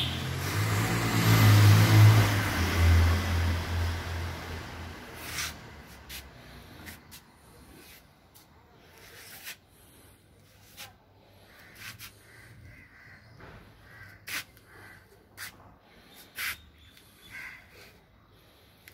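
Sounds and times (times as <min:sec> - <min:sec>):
outdoor background noise: 0:00.0 - 0:18.9.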